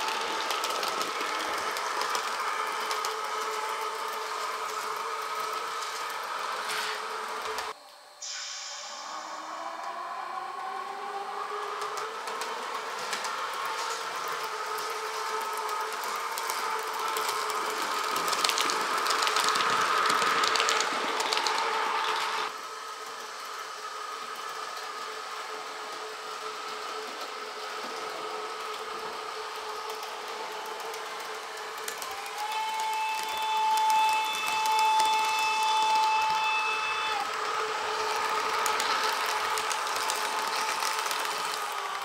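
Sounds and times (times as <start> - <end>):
wheels clicking over rails: 0.0 - 7.8, 9.4 - 42.0
model train motor whine: 0.0 - 42.0.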